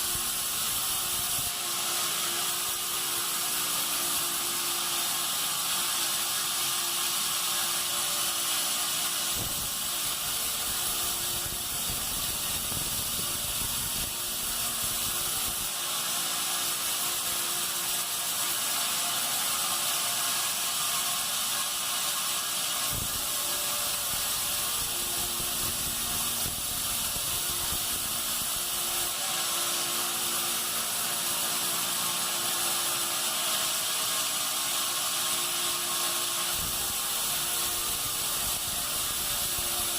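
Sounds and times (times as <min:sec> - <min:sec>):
high hiss: 0:00.0 - 0:39.9
sawmill machinery rattling: 0:00.0 - 0:39.9.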